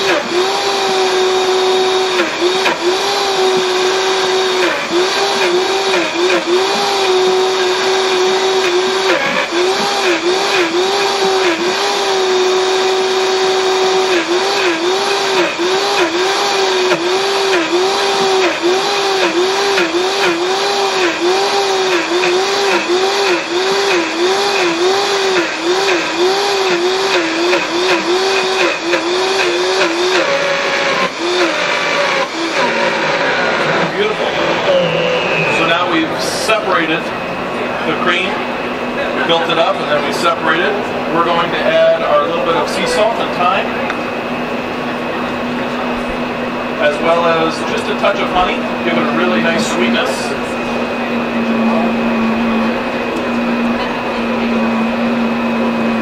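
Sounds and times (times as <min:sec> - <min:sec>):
blender churning thick cream: 0:00.0 - 0:38.5, 0:44.9 - 0:56.0
blender motor whining: 0:00.0 - 0:41.5, 0:42.1 - 0:56.0.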